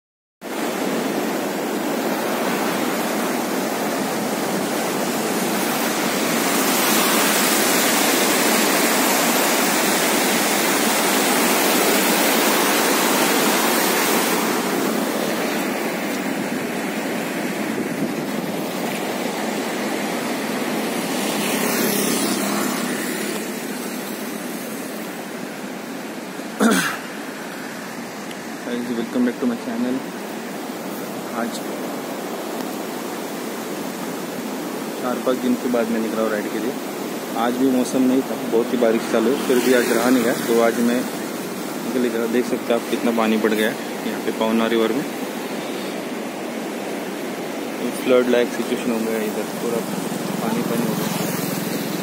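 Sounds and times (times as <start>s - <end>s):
flooded river rushing: 0.4s - 52.0s.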